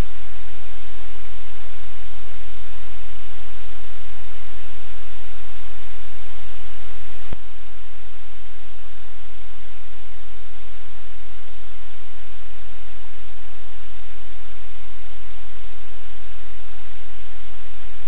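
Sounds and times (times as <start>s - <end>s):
low electrical hum: 0.0s - 18.0s
static hiss: 0.0s - 18.0s.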